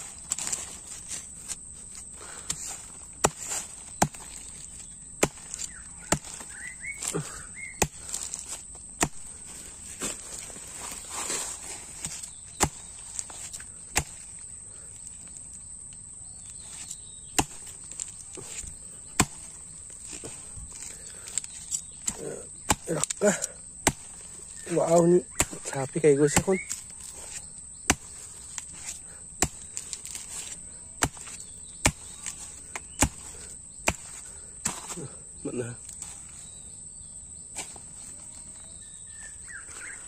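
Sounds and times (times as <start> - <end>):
blade chopping bamboo: 0.0 - 14.5, 16.6 - 35.2
high insect drone: 0.0 - 40.0.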